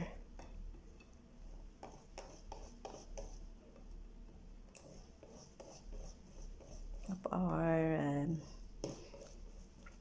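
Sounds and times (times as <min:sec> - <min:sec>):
whisk scraping and tapping bowl: 0:00.4 - 0:10.0.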